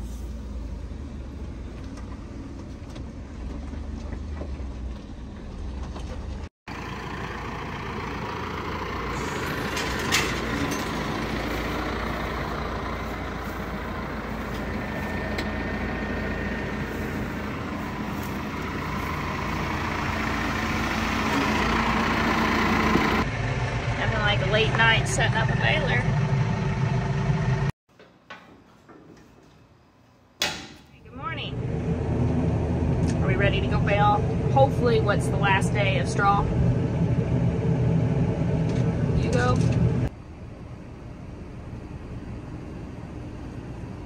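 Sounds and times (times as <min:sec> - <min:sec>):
engine idling: 0:00.0 - 0:27.7, 0:31.1 - 0:44.0
vehicle engine rumble: 0:00.0 - 0:27.8, 0:29.1 - 0:44.0.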